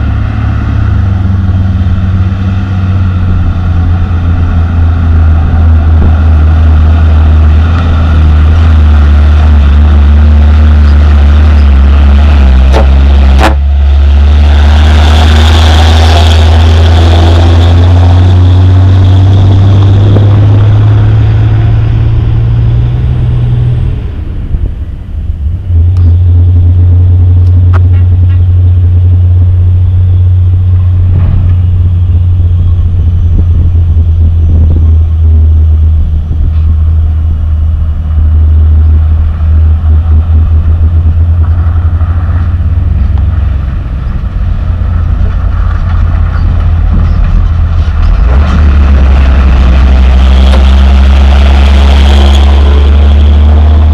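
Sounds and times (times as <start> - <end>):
diesel truck engine rumbling: 0.0 - 53.9
truck approaching: 0.0 - 53.9.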